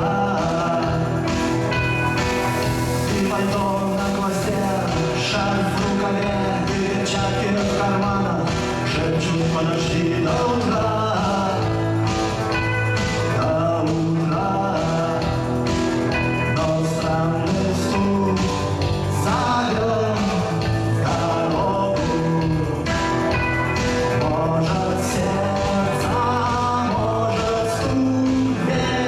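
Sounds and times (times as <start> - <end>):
song with guitar band: 0.0 - 29.0.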